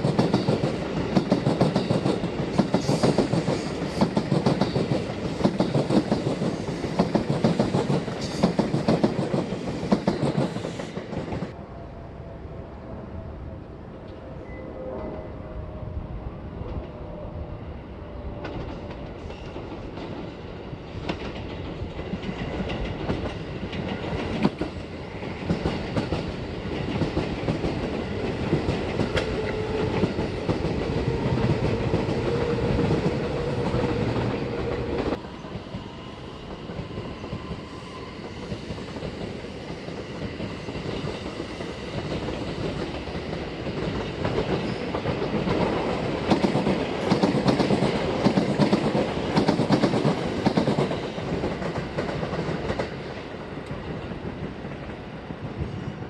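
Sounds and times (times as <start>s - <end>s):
electric train hum: 0.0s - 56.0s
second train approaching: 0.0s - 56.0s.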